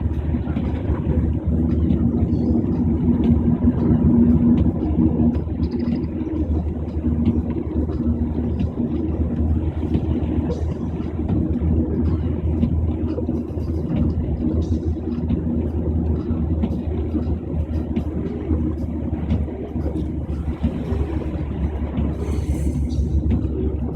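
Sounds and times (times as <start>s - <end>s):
car engine and road noise: 0.0s - 23.9s.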